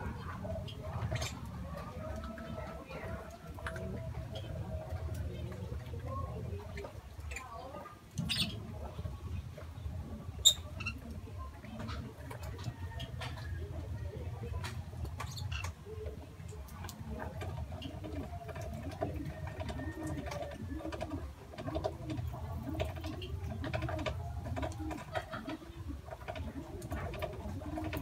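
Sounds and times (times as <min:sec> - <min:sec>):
lovebirds chirping and clicking: 0:00.0 - 0:28.0
pigeon cooing: 0:00.0 - 0:28.0.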